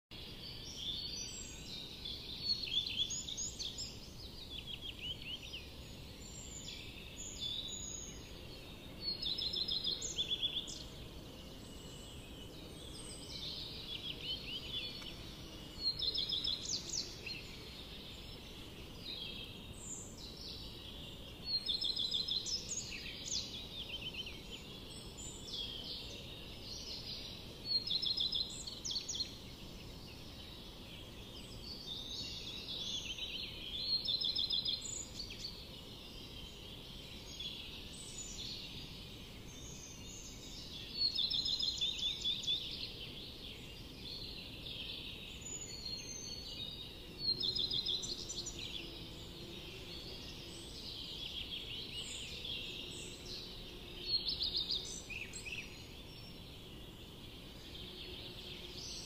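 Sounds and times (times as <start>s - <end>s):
faint steady hiss: 0.1s - 59.0s.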